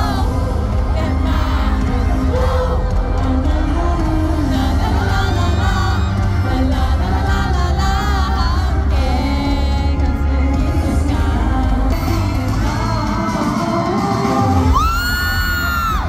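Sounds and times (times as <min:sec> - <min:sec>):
man singing into a microphone: 0:00.0 - 0:15.9
backing track with heavy bass: 0:00.0 - 0:16.0.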